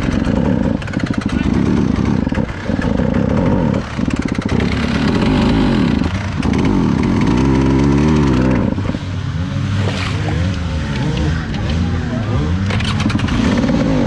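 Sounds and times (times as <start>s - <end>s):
water churning and splashing: 0.0s - 11.7s
motorcycle engine revving: 0.0s - 14.0s.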